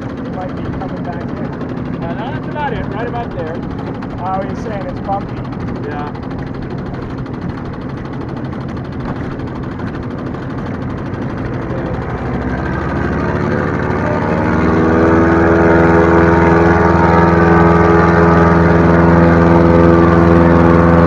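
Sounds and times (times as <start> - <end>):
outboard boat motor running: 0.0 - 21.0.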